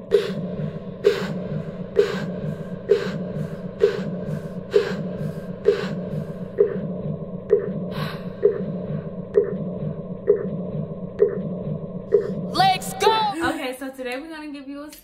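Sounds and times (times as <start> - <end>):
low droning hum: 0.0 - 13.7.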